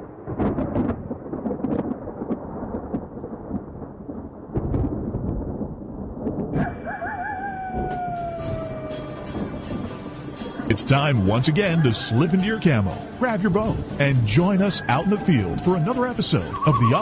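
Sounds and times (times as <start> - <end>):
thunder rumbling and crackling: 0.0 - 17.0.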